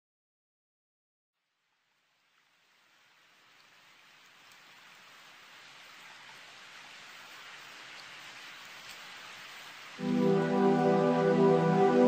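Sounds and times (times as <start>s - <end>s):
faint even hiss: 1.4s - 12.0s.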